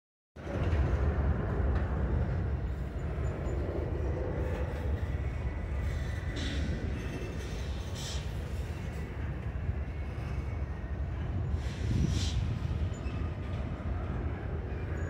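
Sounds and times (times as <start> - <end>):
freight train wheels rumbling: 0.4 - 15.0.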